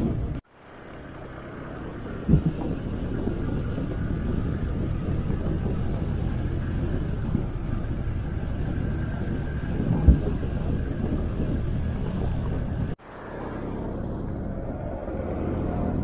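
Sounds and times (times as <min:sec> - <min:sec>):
road and wind noise: 0:00.0 - 0:16.0
motorcycle engine running: 0:01.0 - 0:16.0.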